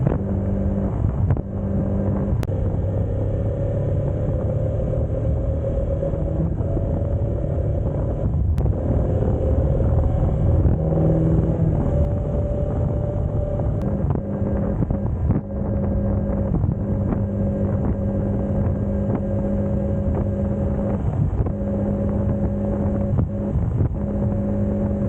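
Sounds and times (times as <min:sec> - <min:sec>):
motorcycle engine cruising: 0:00.0 - 0:25.0
wind buffeting microphone: 0:00.0 - 0:25.0.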